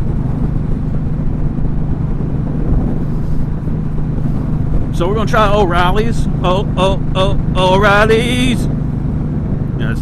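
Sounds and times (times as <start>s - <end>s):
motorcycle engine droning: 0.0s - 10.0s
wind and road rumble: 0.0s - 10.0s.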